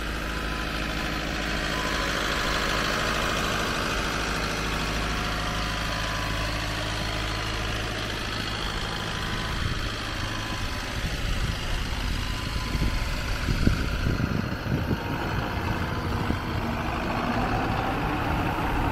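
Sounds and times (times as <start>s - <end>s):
excavator diesel engine idling: 0.0s - 18.9s.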